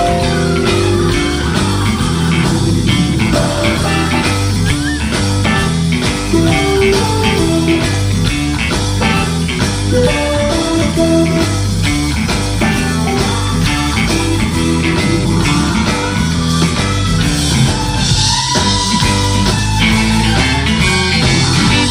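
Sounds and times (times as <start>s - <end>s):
blues rock band playing: 0.0s - 21.9s.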